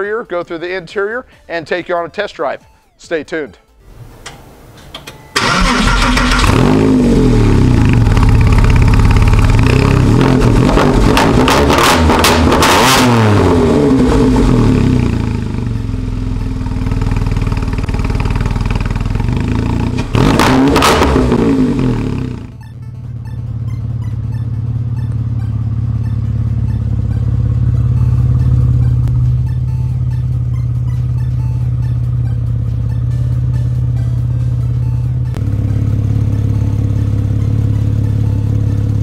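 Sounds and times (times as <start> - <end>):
sports car engine revving and idling: 6.4 - 39.0.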